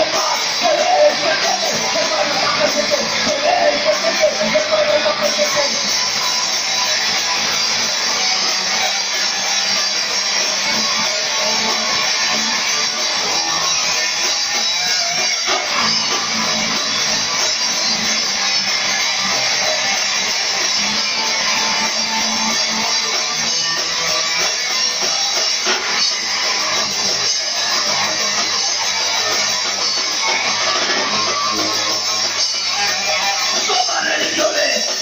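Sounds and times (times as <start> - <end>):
punk rock band playing: 0.0 - 35.0.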